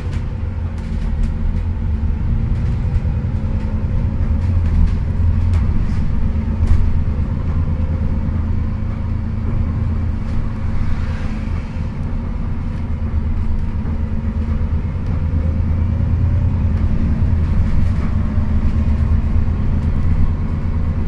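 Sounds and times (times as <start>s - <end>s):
bus engine droning: 0.0s - 21.0s
road rumble: 0.0s - 21.0s.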